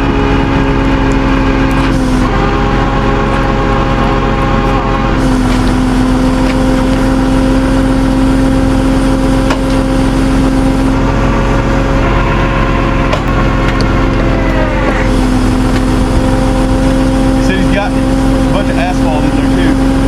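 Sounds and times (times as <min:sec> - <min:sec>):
truck engine drone: 0:00.0 - 0:20.0.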